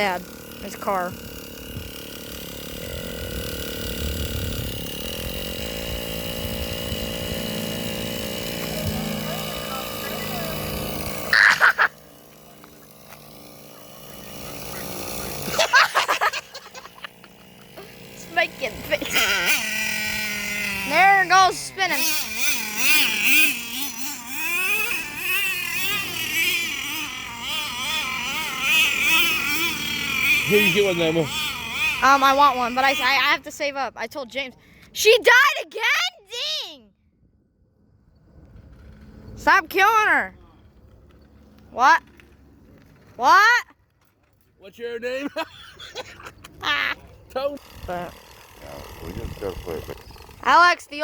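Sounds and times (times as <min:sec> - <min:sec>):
toy car electric motor whining: 0:00.0 - 0:36.8, 0:38.3 - 0:43.8, 0:44.7 - 0:51.0.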